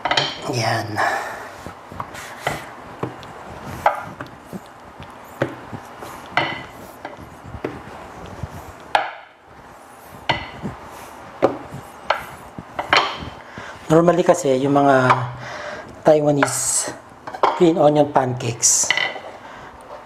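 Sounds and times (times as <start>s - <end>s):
rolling pin rolling dough: 0.0s - 17.9s.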